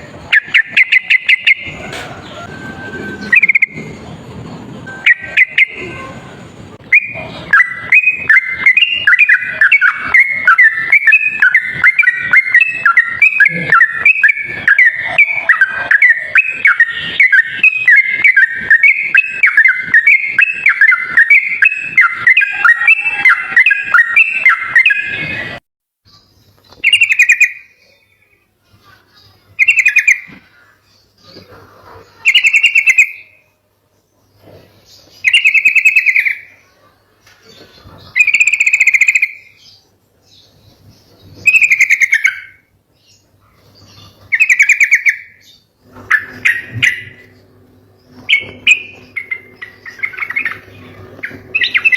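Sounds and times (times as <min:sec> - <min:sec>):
bird singing warbled phrases: 0:00.0 - 0:02.5, 0:03.1 - 0:04.2, 0:04.8 - 0:51.9.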